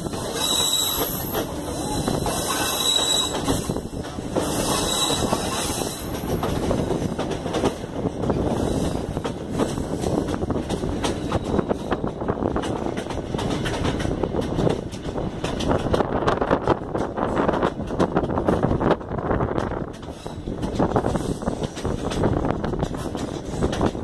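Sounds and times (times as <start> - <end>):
train wheels rumbling: 0.0 - 24.0
rattling clicks and knocks: 3.3 - 24.0.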